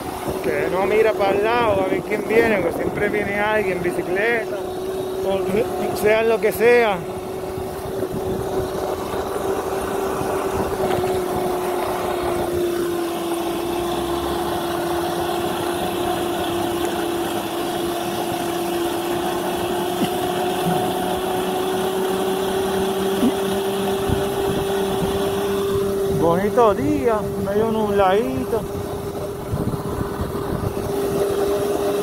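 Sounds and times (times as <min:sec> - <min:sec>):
electric motor whining: 0:00.0 - 0:32.0
wind and road noise: 0:00.0 - 0:32.0.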